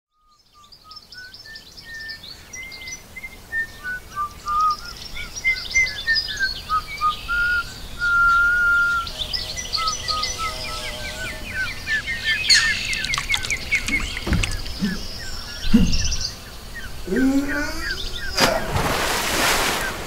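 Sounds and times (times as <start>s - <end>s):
birds chirping: 0.4s - 20.0s.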